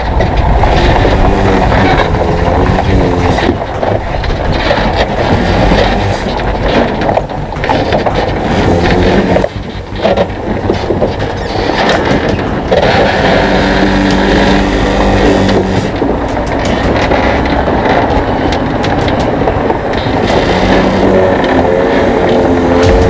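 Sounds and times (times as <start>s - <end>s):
diesel truck engine: 0.0s - 23.0s
tyres and chassis rattling on gravel: 0.0s - 23.0s.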